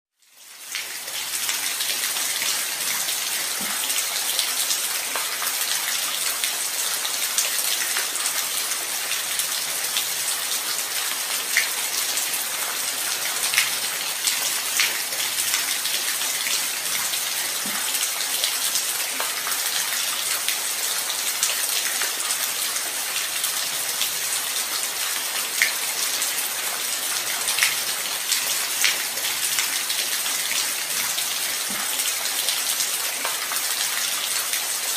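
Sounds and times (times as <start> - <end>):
light rain: 0.2 - 34.9.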